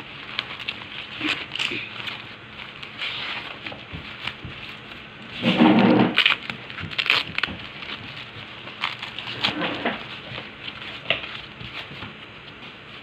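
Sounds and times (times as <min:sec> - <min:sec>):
packing wrap rustling and crinkling: 0:00.0 - 0:13.0.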